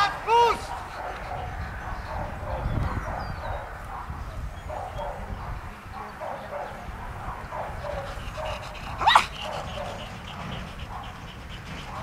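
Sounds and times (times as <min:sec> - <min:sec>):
dog barking: 0:00.4 - 0:12.0.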